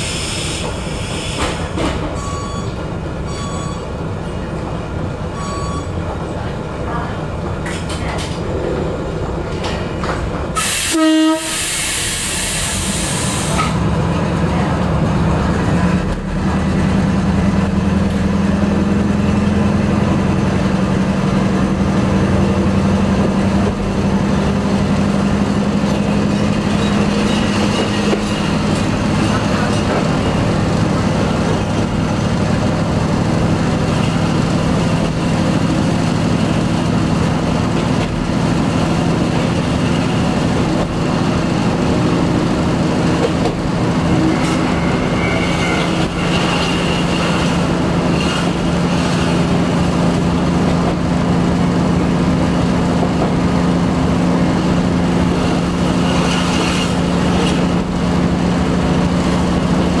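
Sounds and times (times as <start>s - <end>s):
railcar engine hum: 0.0s - 60.0s
wheels rumbling on rails: 0.0s - 60.0s.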